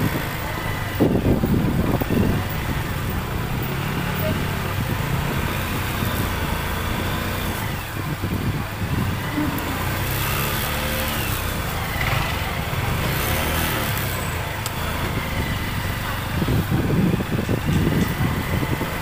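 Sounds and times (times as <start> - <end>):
busy street market noise: 0.0 - 19.0
motorcycle engine running: 0.0 - 19.0.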